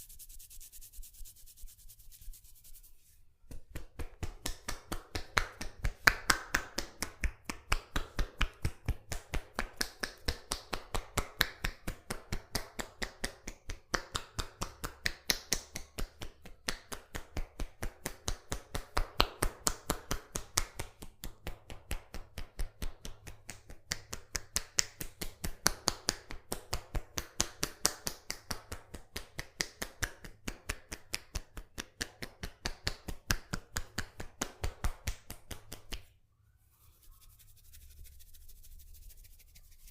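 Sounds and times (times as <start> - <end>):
hands slapping head: 3.5 - 36.1.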